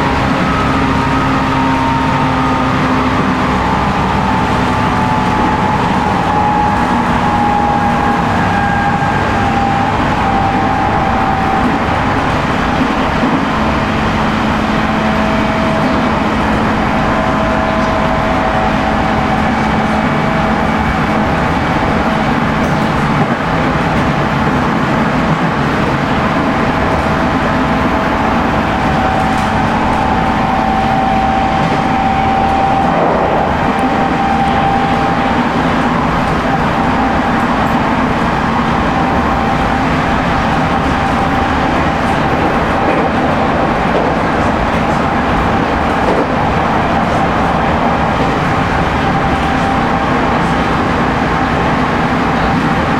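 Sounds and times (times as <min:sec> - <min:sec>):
electric train motor whine: 0:00.0 - 0:52.9
wheel and rail noise: 0:00.0 - 0:52.9.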